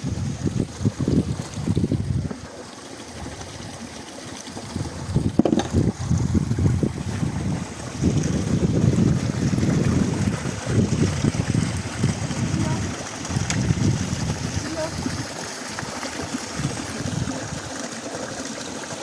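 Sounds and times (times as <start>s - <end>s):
wind buffeting microphone: 0.0s - 2.5s, 4.5s - 17.8s.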